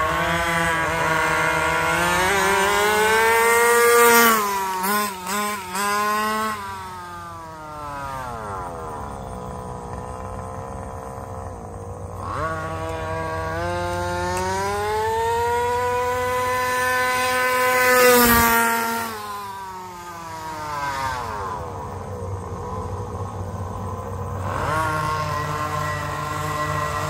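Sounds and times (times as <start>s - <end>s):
small two-stroke engine revving: 0.0s - 27.0s.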